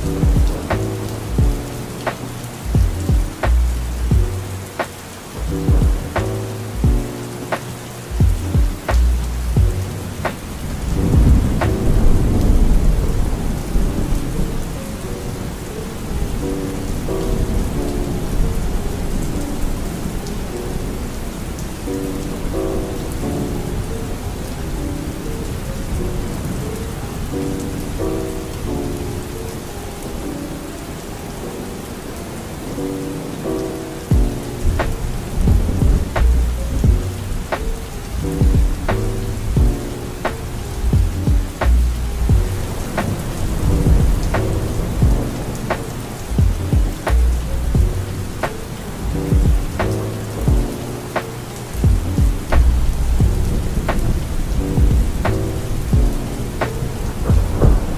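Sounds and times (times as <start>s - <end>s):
thunder rumbles: 0.0s - 29.4s, 31.4s - 57.9s
soft lo-fi music: 0.0s - 57.9s
steady rain: 0.0s - 57.9s.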